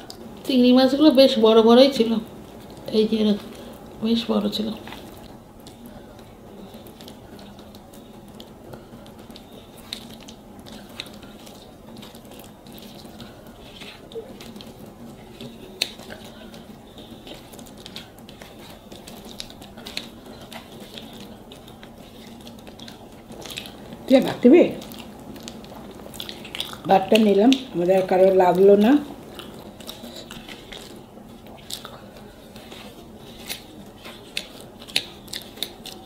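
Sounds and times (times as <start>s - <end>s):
steady low hum: 0.0s - 36.0s
hands squishing wet rice: 4.8s - 36.0s.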